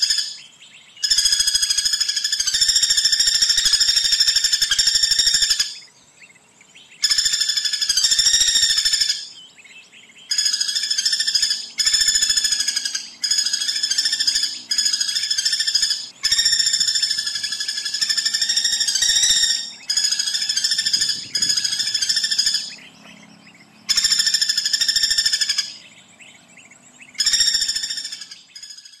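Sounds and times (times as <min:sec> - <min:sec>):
woodpecker rattling trill: 0:00.0 - 0:29.0.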